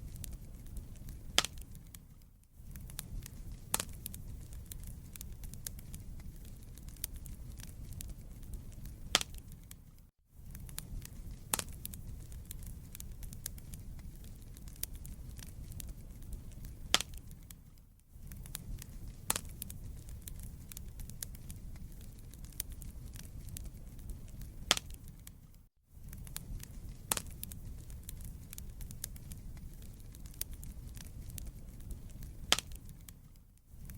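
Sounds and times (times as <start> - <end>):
wood fire burning: 0.0 - 33.9
logs popping: 0.1 - 2.1, 2.7 - 9.8, 10.4 - 33.9.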